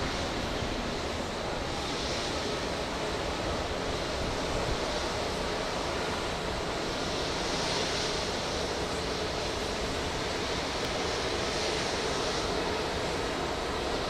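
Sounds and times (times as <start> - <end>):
airliner jet engines rushing: 0.0 - 14.0.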